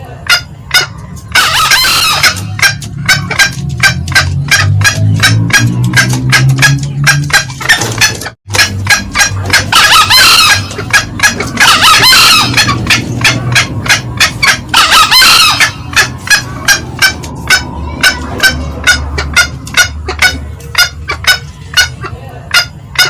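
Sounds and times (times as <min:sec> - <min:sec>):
junglefowl cackling notes: 0:00.0 - 0:23.0
junglefowl crowing: 0:00.2 - 0:23.0.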